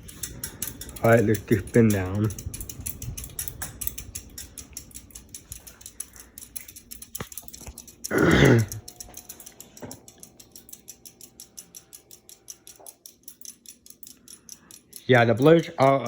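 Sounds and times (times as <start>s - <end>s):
ceiling fan ticking: 0.0s - 16.0s.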